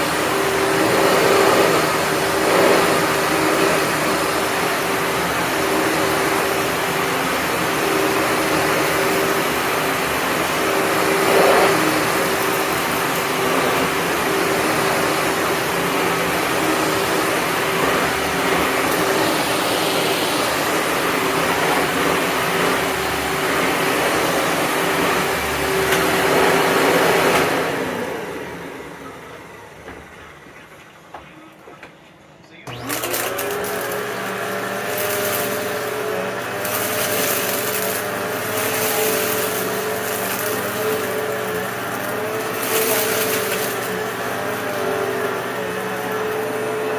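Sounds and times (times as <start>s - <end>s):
vacuum motor spinning up: 0.0s - 30.2s, 32.7s - 46.9s
vacuum motor winding down: 0.0s - 30.2s, 32.7s - 46.9s
vacuum cleaner motor running: 0.0s - 30.8s, 32.7s - 46.9s.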